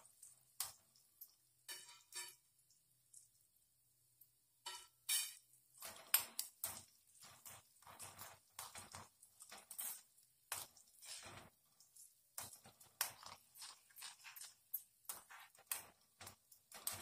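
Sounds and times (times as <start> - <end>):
spoon scraping against pan: 0.0 - 2.5, 4.6 - 17.0
seeds frying in pan: 0.0 - 17.0.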